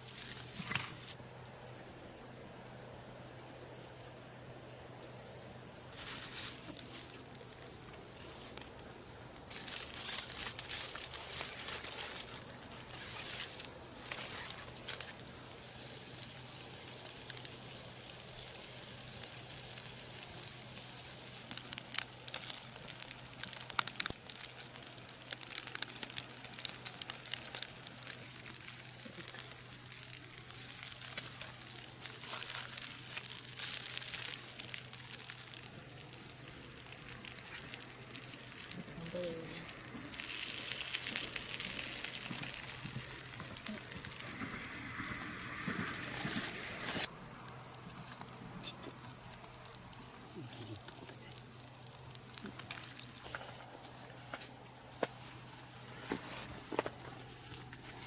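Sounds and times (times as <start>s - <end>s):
rustling and crinkling: 0.0s - 1.8s, 3.2s - 18.6s, 19.2s - 58.0s.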